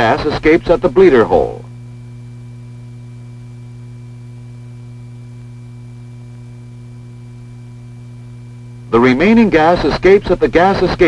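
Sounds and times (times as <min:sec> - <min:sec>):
faint high steady tones: 0:00.0 - 0:03.8, 0:04.4 - 0:11.0
low electrical hum: 0:00.0 - 0:11.0.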